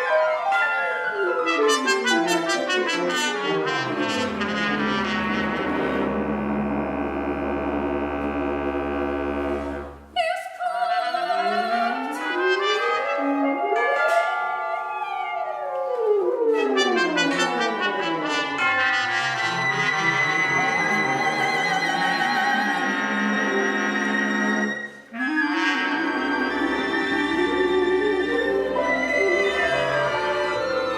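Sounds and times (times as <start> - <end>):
chamber ensemble playing: 0.0 - 10.1, 11.6 - 30.9.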